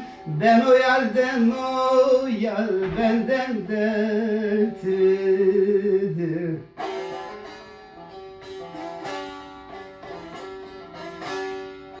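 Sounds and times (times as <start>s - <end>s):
long-necked lute folk melody: 0.0s - 12.0s.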